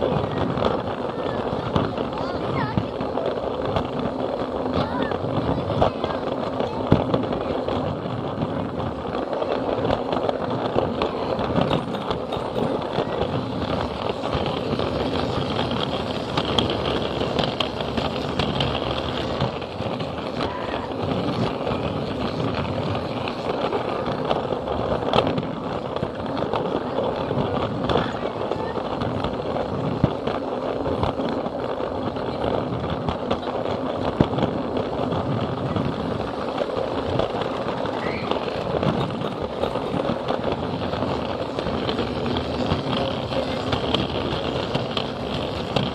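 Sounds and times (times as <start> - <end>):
crowd talking: 0.0 - 45.9
toy train motor rattling: 8.6 - 45.9.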